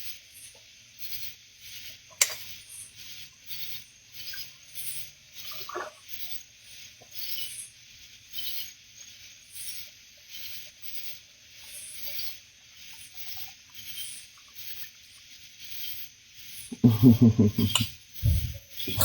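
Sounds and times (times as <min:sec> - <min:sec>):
night insects chirping: 0:00.2 - 0:19.0.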